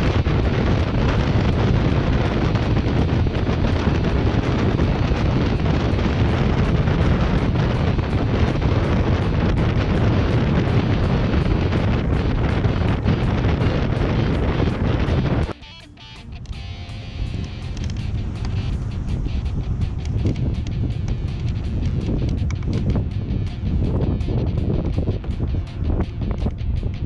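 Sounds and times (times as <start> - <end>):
wind buffeting microphone: 0.0 - 15.6, 16.2 - 27.0.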